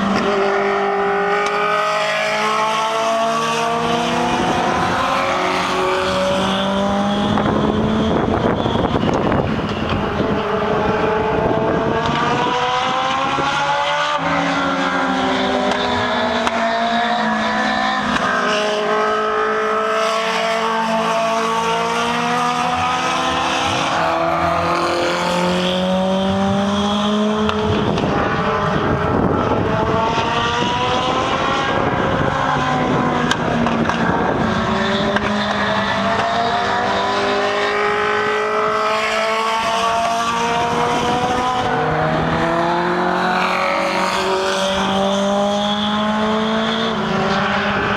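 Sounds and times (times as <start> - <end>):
race car engines accelerating: 0.0 - 47.9.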